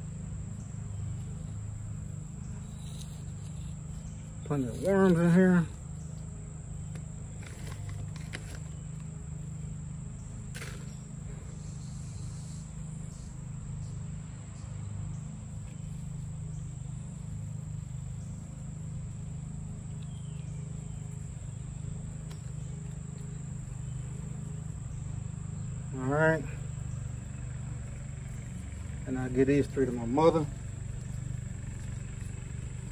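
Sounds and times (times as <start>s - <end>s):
insects trilling: 0.0s - 32.9s
low steady hum: 0.0s - 32.9s.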